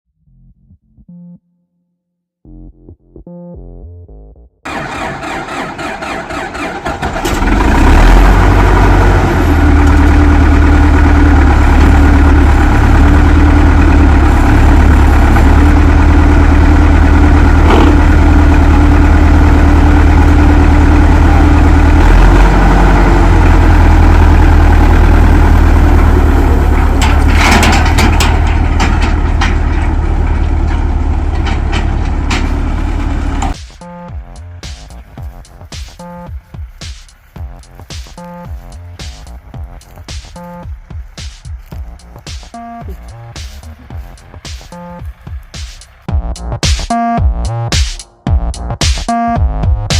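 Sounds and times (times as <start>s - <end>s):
tractor engine running: 4.7s - 49.9s.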